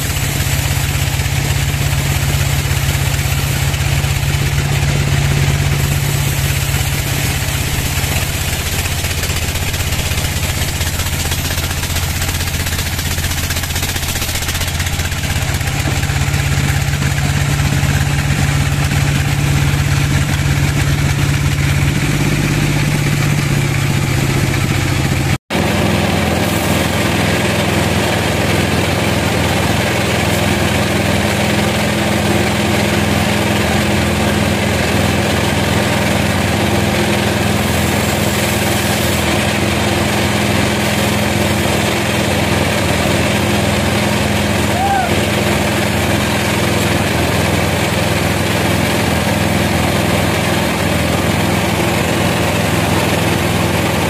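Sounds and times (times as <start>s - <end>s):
band sawmill machine hum: 0.0s - 54.0s.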